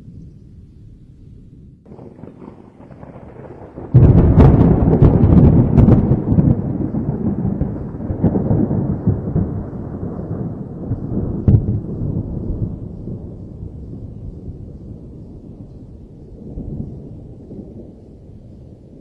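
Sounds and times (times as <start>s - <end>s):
thunder rumble: 0.0s - 19.0s
thunder clap: 1.9s - 18.0s.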